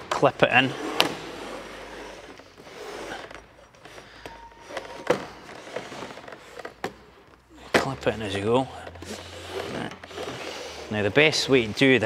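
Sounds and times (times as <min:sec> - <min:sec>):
plastic rubbing and scraping: 0:00.4 - 0:12.0.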